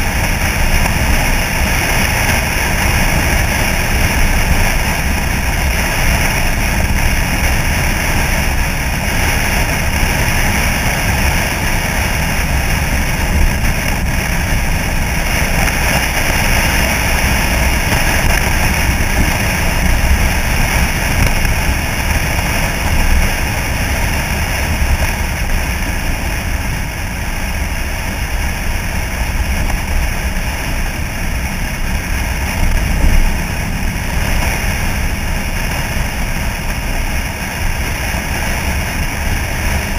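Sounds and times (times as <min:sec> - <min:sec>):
road noise: 0:00.0 - 0:39.9
truck engine: 0:00.0 - 0:39.9
wind rushing on camera: 0:00.0 - 0:39.9.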